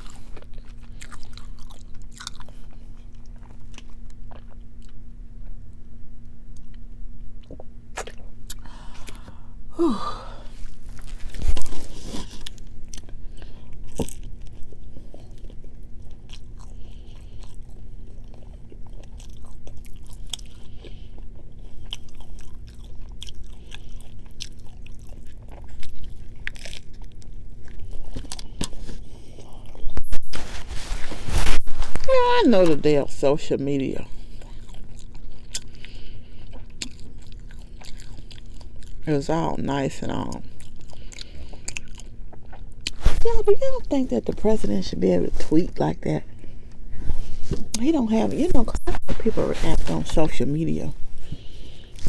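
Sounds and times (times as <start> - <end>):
person chewing crunchy food: 0.0 - 9.6, 10.3 - 33.0, 33.8 - 43.8, 45.7 - 52.0
faint steady hum: 0.0 - 52.0.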